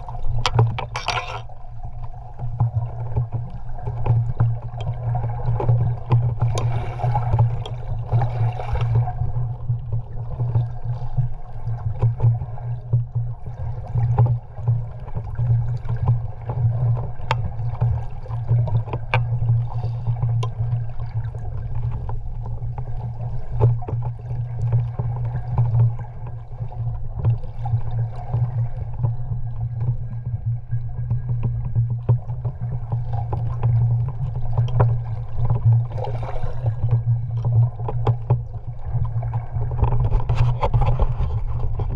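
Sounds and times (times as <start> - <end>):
low underwater hum: 0.0 - 41.9
water sloshing: 0.0 - 41.9.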